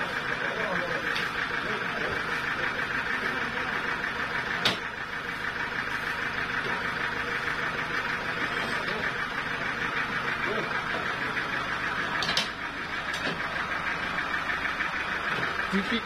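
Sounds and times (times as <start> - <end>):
sawmill engine idling: 0.0 - 16.0.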